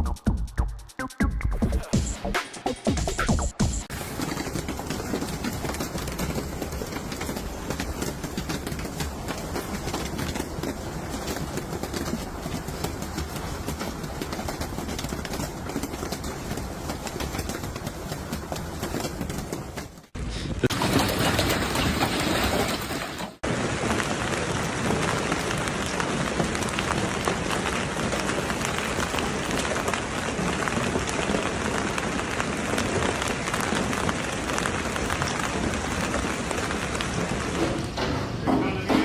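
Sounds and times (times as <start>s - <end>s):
hailstones pelting hard surfaces: 3.6s - 38.0s
heavy rain: 3.8s - 38.0s.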